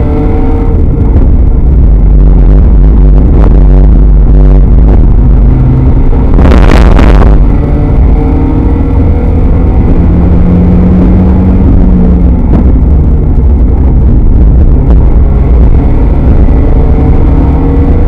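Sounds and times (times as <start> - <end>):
race car engine at speed: 0.0 - 18.0.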